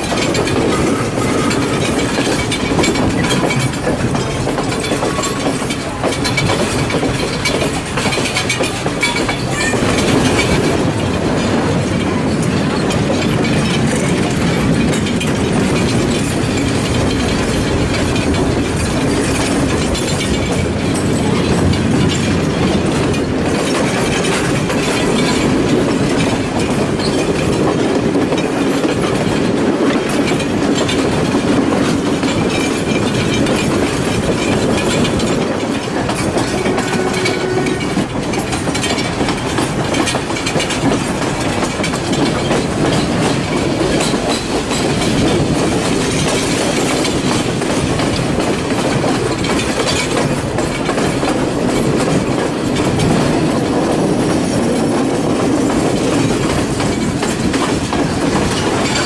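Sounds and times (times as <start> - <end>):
train carriage rumble: 0.0 - 59.0
wheels clattering over rail joints: 0.0 - 59.0.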